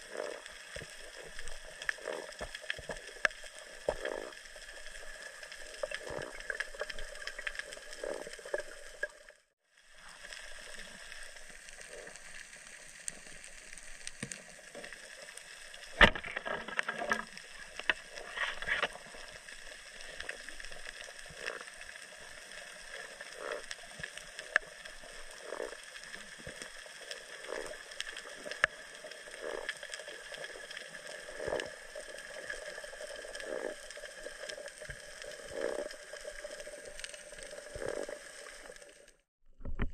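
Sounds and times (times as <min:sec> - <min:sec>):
crackling: 0:00.0 - 0:39.9
water swishes: 0:00.0 - 0:39.9.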